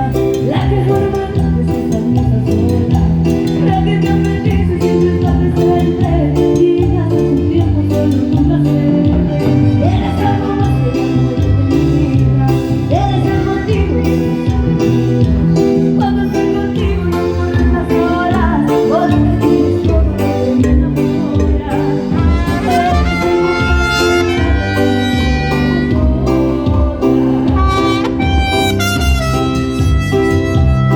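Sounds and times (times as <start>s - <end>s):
person singing: 0.0s - 30.8s
live band playing dance music: 0.0s - 30.9s.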